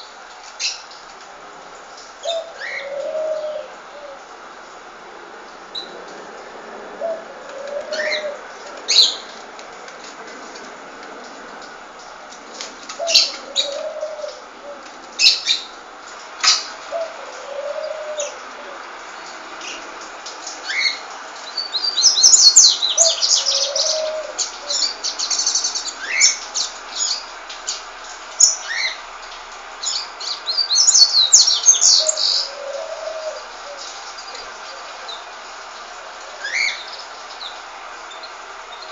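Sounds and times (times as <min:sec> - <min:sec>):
birds chirping and twittering: 0:02.0 - 0:04.8, 0:05.5 - 0:38.9.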